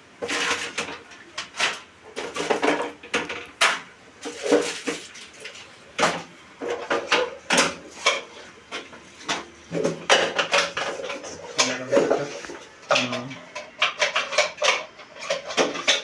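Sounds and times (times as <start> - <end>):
tools knocking and clattering: 0.2 - 16.0.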